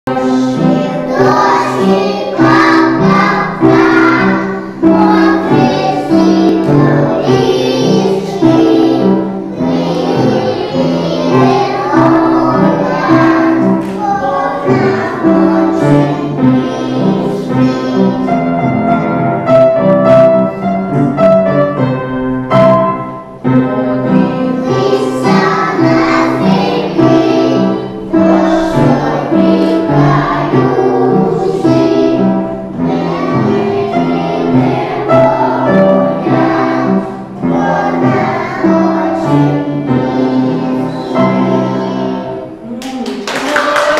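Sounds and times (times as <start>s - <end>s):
children singing together: 0.1s - 42.8s
musical accompaniment: 0.1s - 43.9s.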